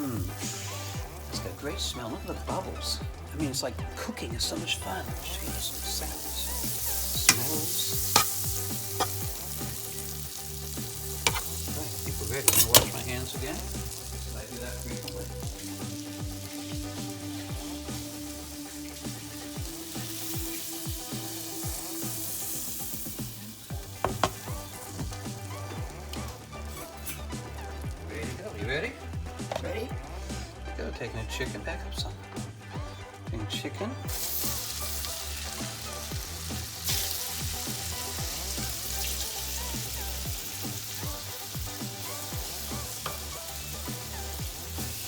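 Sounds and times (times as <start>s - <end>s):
butter sizzling in a skillet: 0.0s - 30.8s, 34.1s - 45.0s
background music: 0.0s - 45.0s.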